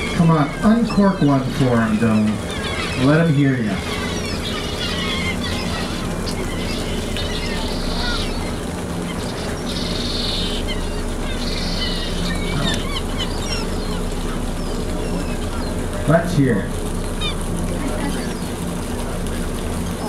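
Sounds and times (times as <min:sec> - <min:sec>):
boat engine hum: 0:00.0 - 0:20.0
gulls calling: 0:00.0 - 0:20.0.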